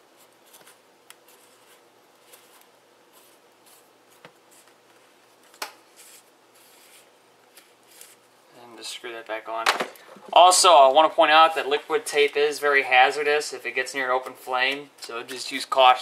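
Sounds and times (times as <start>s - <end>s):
low room hiss: 0.0s - 16.0s.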